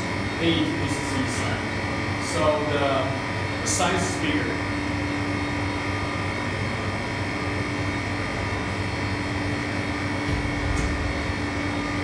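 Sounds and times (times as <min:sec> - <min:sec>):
freezer compressor and fans drone: 0:00.0 - 0:12.0.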